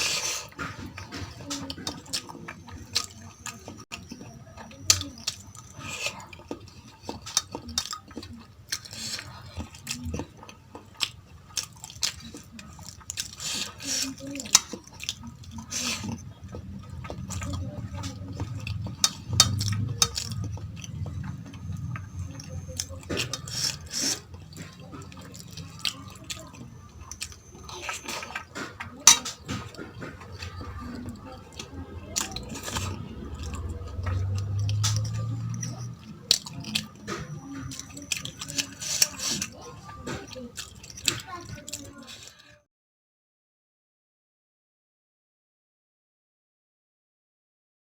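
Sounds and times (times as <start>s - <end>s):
person chewing food: 0.0s - 42.6s.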